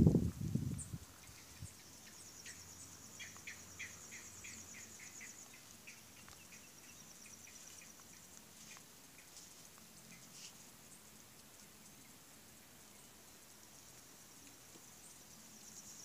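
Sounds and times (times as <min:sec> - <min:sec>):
insect trill: 0:00.7 - 0:16.0.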